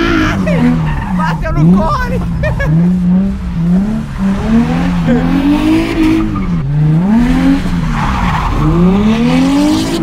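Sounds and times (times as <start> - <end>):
car engine revving: 0.0 - 10.0
tyre noise on wet road: 0.0 - 10.0.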